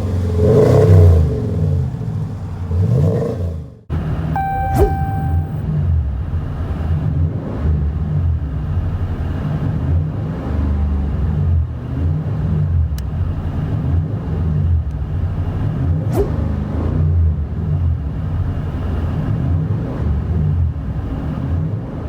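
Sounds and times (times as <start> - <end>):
truck exhaust deep rumble: 0.0 - 3.8, 4.6 - 22.0.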